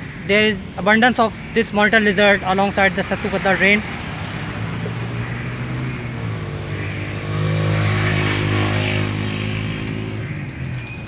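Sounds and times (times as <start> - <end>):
passing vehicle engine hum: 0.0 - 11.0.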